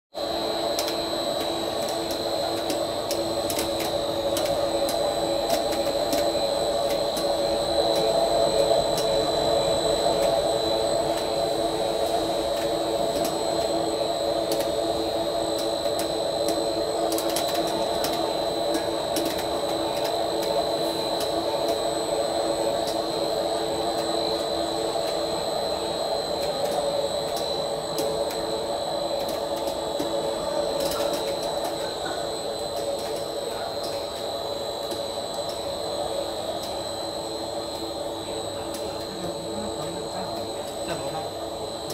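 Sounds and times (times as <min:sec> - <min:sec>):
mechanical hum of motors: 0:00.1 - 0:41.9
high-pitched whine: 0:00.2 - 0:41.9.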